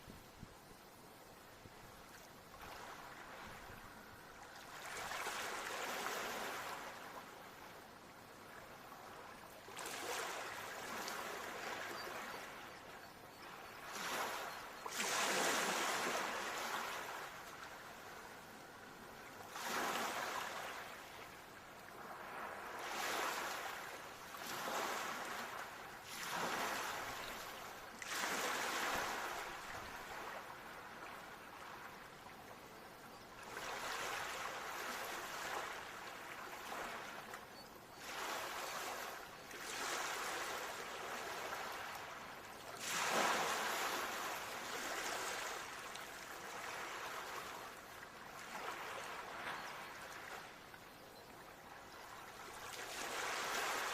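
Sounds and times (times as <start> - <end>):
ocean waves breaking on shore: 2.5 - 7.6, 8.4 - 32.2, 33.4 - 37.4, 38.0 - 50.8, 51.5 - 53.9.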